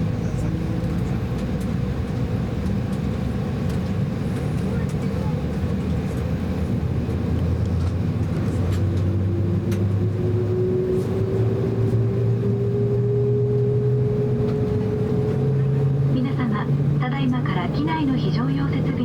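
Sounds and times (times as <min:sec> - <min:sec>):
jet engine cabin hum: 0:00.0 - 0:19.0.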